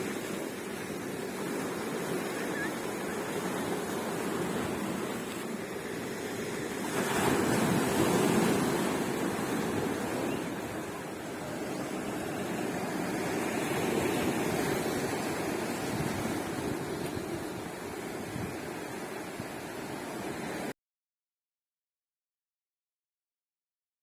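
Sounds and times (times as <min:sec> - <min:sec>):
sea waves washing onto beach: 0:00.0 - 0:20.7.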